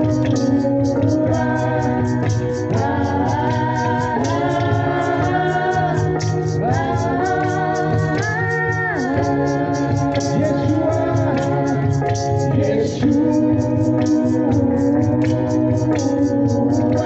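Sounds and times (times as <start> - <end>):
person singing long sliding notes: 0.0 - 17.0
steady beat: 0.0 - 17.0.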